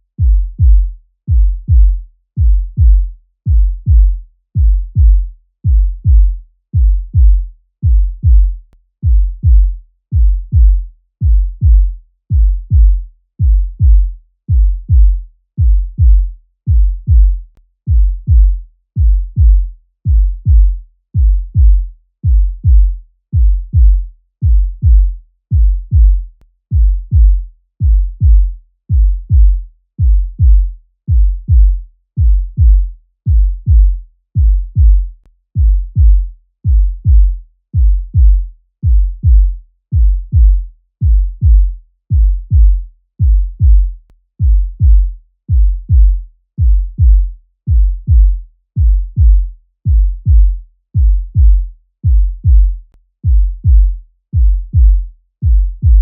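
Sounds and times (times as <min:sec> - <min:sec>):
heartbeat thumps: 0:00.2 - 0:56.0.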